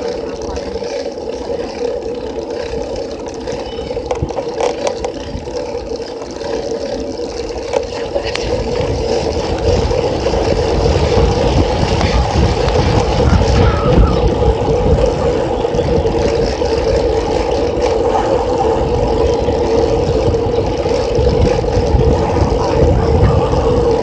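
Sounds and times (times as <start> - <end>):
bicycle rolling whir: 0.0 - 24.0
wind rumble on microphone: 0.0 - 24.0.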